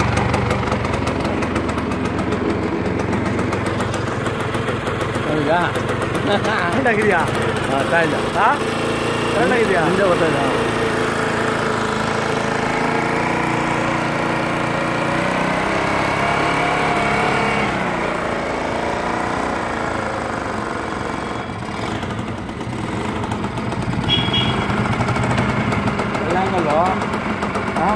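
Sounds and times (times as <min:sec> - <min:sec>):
scooter engine running: 0:00.0 - 0:27.9.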